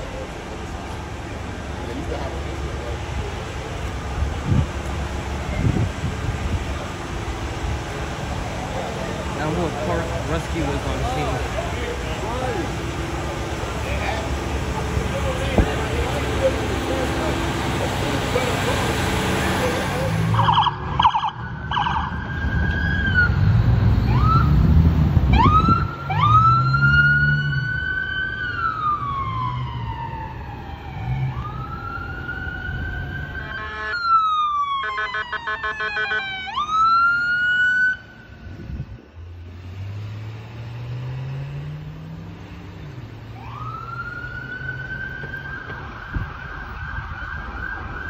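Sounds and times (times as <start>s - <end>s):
emergency siren wailing: 0.0s - 38.6s, 43.1s - 48.0s
traffic noise: 0.0s - 48.0s.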